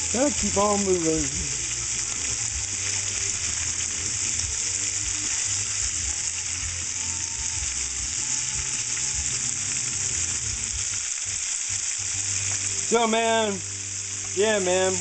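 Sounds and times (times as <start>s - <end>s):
oil sizzling while deep-frying: 0.0s - 15.0s.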